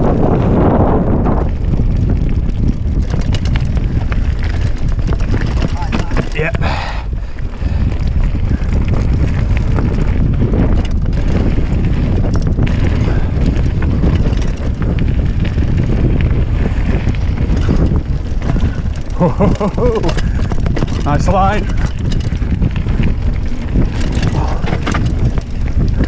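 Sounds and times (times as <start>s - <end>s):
bike tyres crunching on gravel: 0.0s - 26.0s
wind buffeting microphone: 0.0s - 26.0s.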